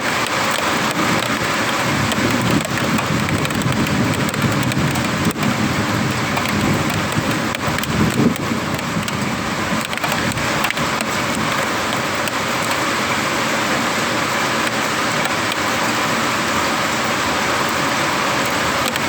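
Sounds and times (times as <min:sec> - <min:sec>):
raindrops ticking: 0:00.0 - 0:19.0
steady rain falling: 0:00.0 - 0:19.0.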